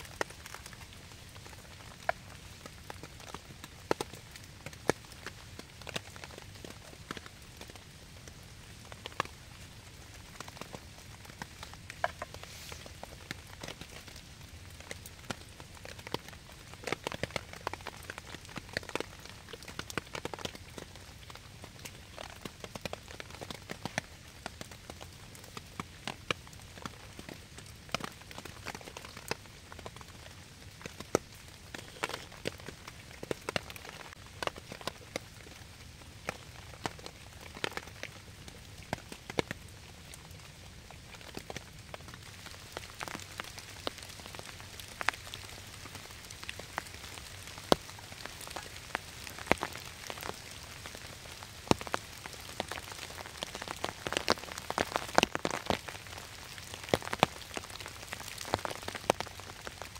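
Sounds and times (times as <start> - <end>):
rain falling in forest: 0.0 - 59.9.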